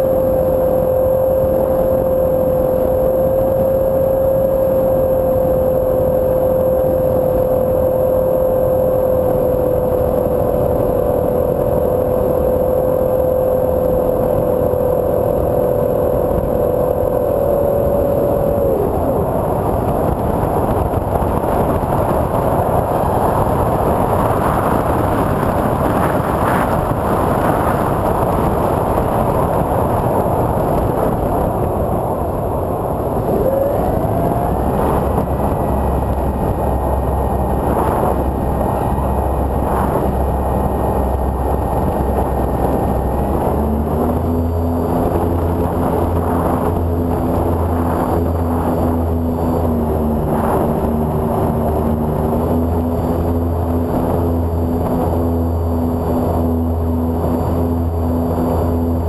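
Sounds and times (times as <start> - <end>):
wind rushing: 0.0 - 59.0.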